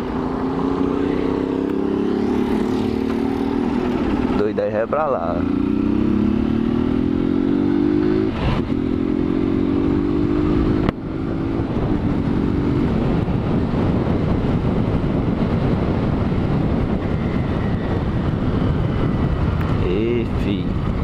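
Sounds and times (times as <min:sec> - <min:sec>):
motorcycle engine accelerating: 0:00.0 - 0:21.0
wind and road rush: 0:00.0 - 0:21.0.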